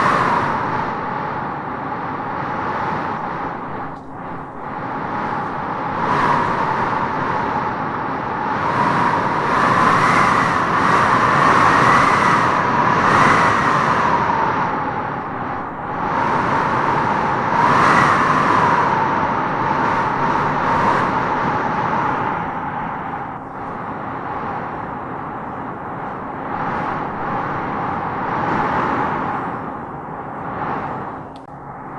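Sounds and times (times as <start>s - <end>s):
wind gusts with whistling howl: 0.0s - 31.9s.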